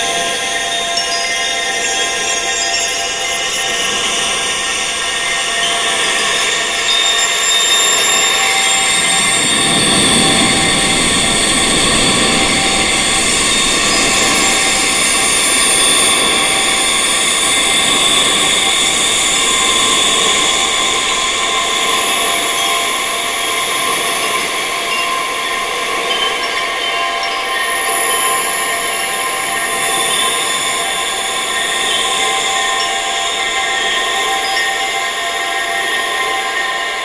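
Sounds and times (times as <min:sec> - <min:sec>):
wind chimes ringing: 0:00.0 - 0:37.0.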